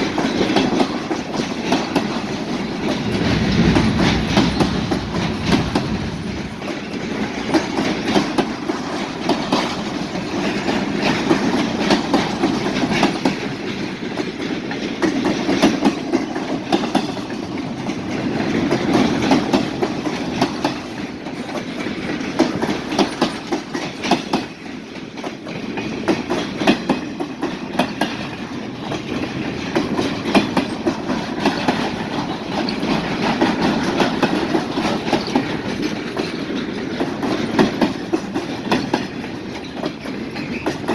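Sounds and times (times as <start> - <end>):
train wheels clicking over rail joints: 0.0 - 40.9.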